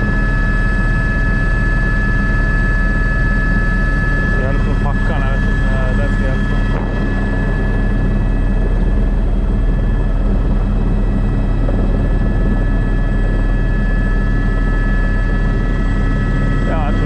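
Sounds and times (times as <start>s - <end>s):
helicopter drone and whine: 0.0s - 17.0s.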